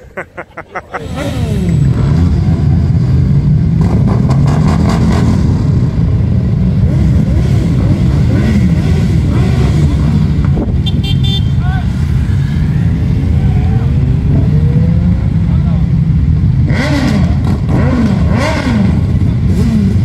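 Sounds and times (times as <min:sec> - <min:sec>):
motorcycle engine revving: 0:00.9 - 0:20.0.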